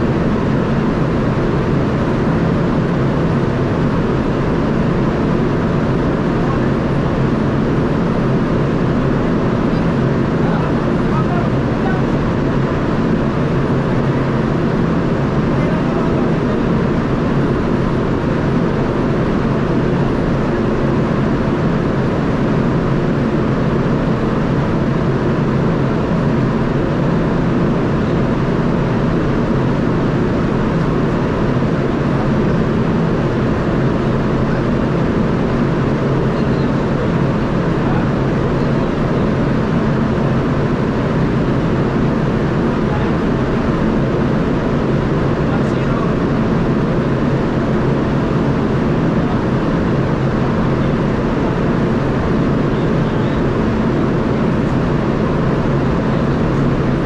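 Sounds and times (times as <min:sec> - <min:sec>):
ship machinery drone: 0:00.0 - 0:57.0.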